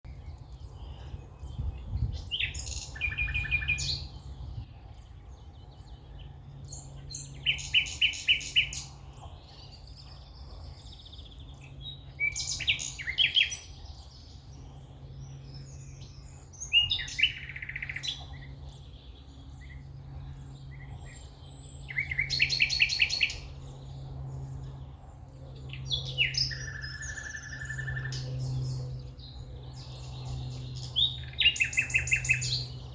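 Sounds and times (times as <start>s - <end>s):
songbird singing: 0.1s - 32.9s
steady low hum: 0.1s - 32.9s.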